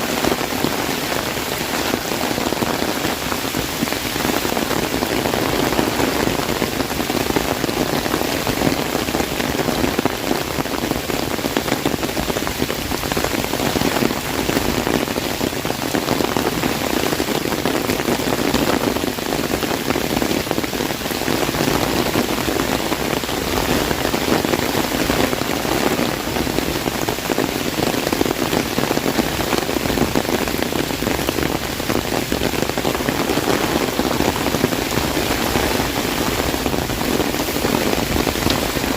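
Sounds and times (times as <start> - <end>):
heavy rain on an umbrella: 0.0 - 38.9.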